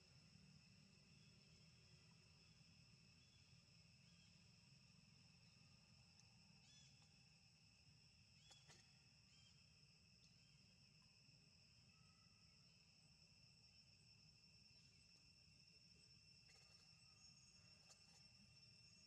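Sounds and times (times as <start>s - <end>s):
brief cricket chirps: 0.0s - 19.0s
faint cricket chorus: 0.0s - 19.0s.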